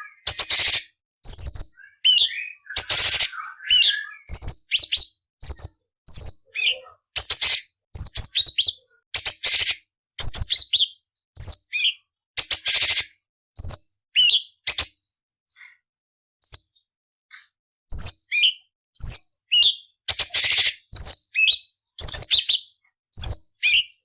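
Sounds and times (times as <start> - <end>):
bird whistling and chattering: 0.0 - 15.8, 17.9 - 24.0.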